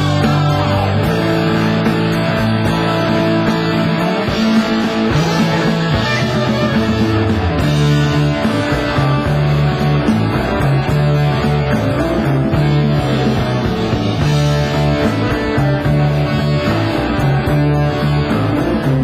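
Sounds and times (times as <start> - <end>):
electric guitar: 0.0 - 19.0
progressive rock instrumental: 0.0 - 19.0.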